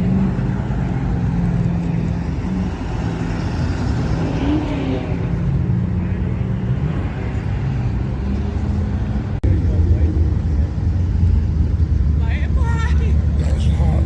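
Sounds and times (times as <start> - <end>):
street traffic passing: 0.0 - 14.0.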